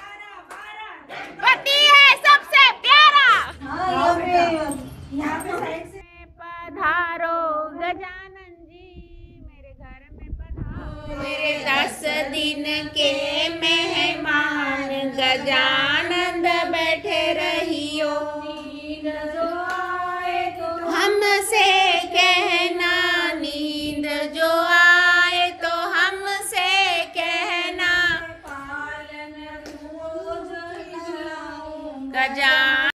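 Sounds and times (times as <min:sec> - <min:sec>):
woman singing devotional song: 0:03.4 - 0:33.0.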